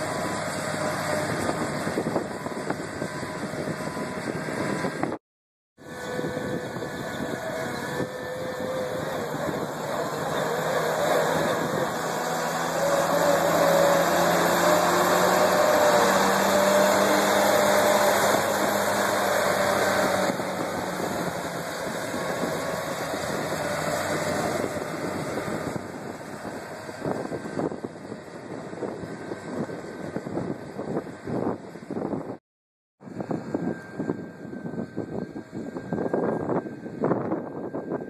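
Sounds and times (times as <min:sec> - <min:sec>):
dozer diesel engine under load: 0:00.0 - 0:05.2, 0:05.8 - 0:32.4
wind buffeting microphone: 0:00.0 - 0:05.2, 0:05.8 - 0:32.4, 0:33.0 - 0:38.0.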